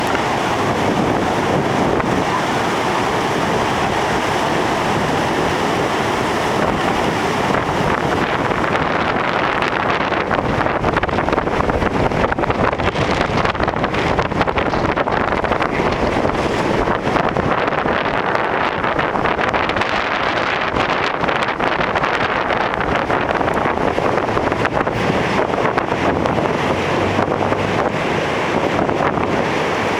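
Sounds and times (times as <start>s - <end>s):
heavy surf: 0.0s - 29.9s
wind buffeting microphone: 0.0s - 29.9s.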